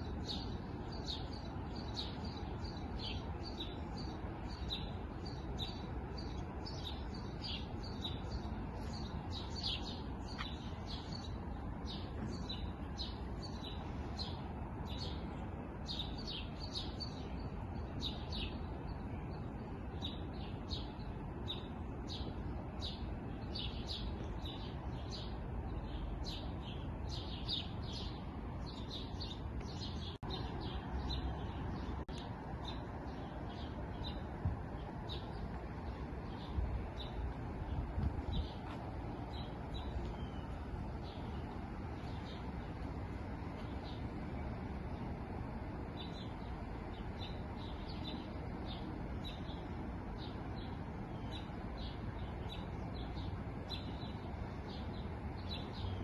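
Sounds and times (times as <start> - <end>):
small birds chirping: 0.0 - 56.0
steady low rumble: 0.0 - 56.0.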